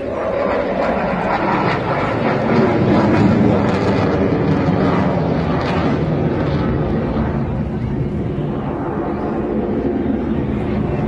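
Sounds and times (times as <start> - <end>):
military jet flying past: 0.0 - 11.0.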